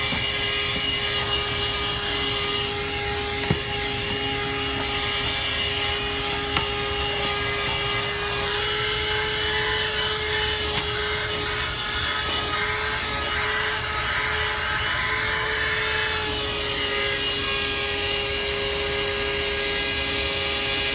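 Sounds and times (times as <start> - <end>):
handheld vacuum motor whining: 0.0 - 20.9.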